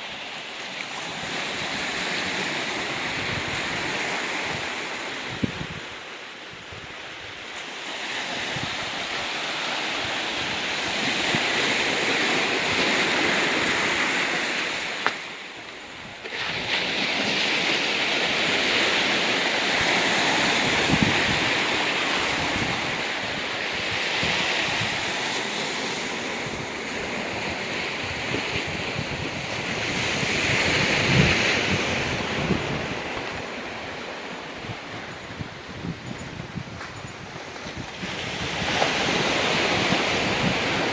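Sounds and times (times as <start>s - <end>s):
sea waves breaking on rocky beach: 0.0s - 40.9s
wind blowing on microphone: 0.0s - 40.9s.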